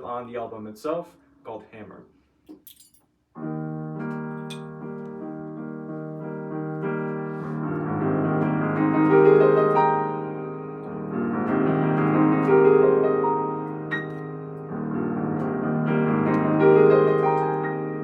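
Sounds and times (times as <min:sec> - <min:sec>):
piano bass part: 0:03.4 - 0:18.0
piano playing held chords: 0:03.4 - 0:18.0.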